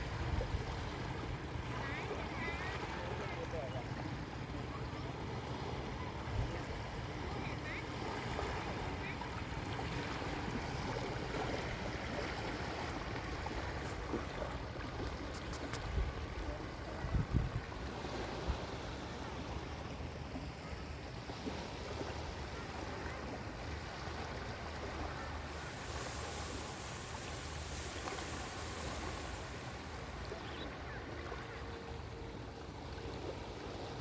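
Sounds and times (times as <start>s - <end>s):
sea waves washing onto beach: 0.0s - 34.0s.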